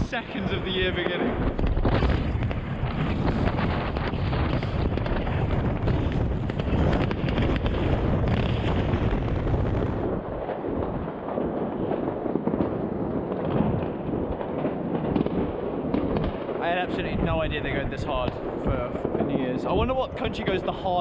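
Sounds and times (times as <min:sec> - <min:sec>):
deep rumble of fireworks booms: 0:00.0 - 0:21.0
firecrackers crackling and popping: 0:00.0 - 0:21.0.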